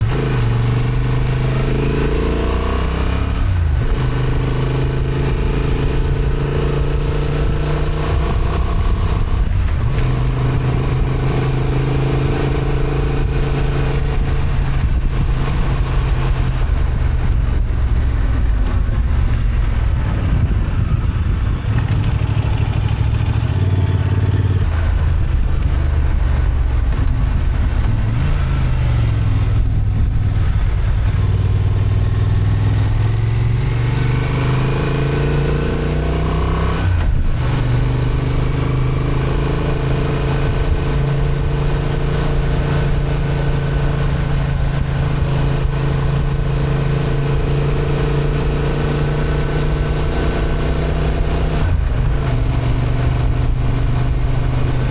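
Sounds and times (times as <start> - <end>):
motorcycle engine under load: 0.0 - 54.9.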